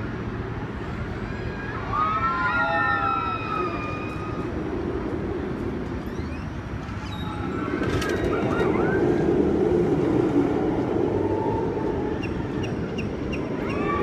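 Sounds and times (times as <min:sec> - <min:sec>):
amusement ride rumbling: 0:00.0 - 0:14.0.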